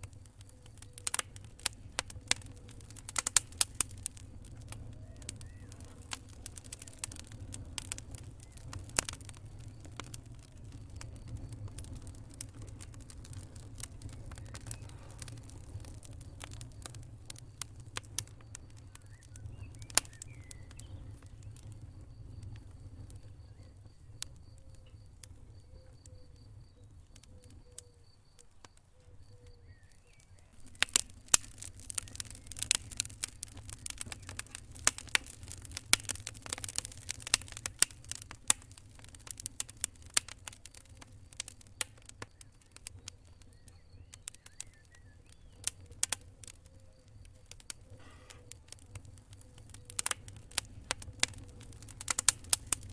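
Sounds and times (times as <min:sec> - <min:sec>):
fire popping and crackling: 0:00.0 - 0:52.9
fire rumbling: 0:00.0 - 0:52.9.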